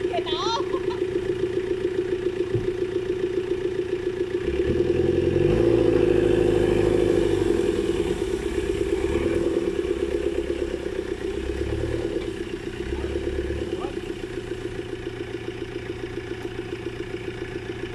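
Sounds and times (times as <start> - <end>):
off-road vehicle engines running: 0.0 - 17.9.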